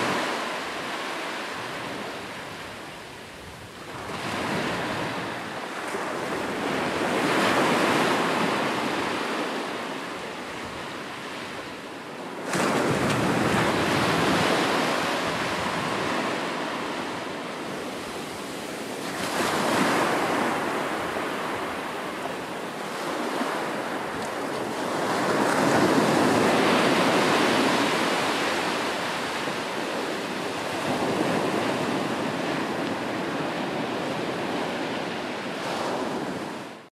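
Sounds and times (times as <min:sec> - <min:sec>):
waves breaking: 0:00.0 - 0:36.8.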